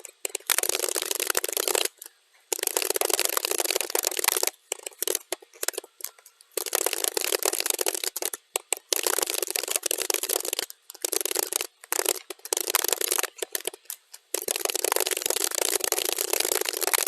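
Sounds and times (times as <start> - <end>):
keyboard typing: 0.0 - 17.0.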